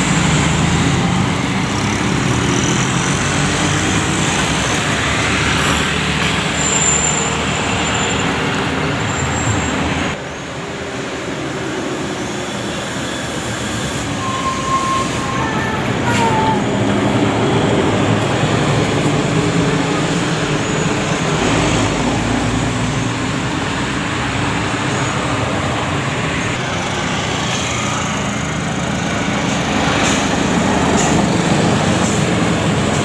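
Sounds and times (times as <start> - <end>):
heavy road traffic passing: 0.0 - 33.0.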